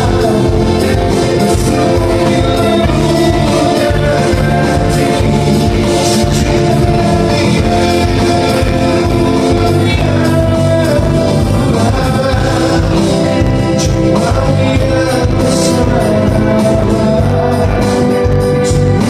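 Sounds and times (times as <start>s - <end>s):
live band playing: 0.0s - 19.0s
vocalist singing: 0.0s - 19.0s.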